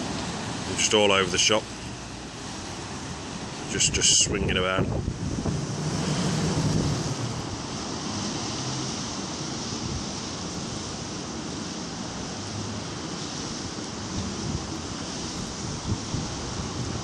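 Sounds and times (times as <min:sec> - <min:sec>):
rough sea breaking against pier: 0:00.0 - 0:17.0
wind rumbling on microphone: 0:00.0 - 0:17.0.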